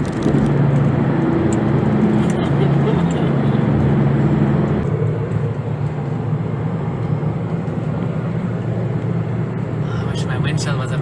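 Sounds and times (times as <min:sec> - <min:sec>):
road noise: 0:00.0 - 0:11.0
van engine running: 0:00.0 - 0:11.0.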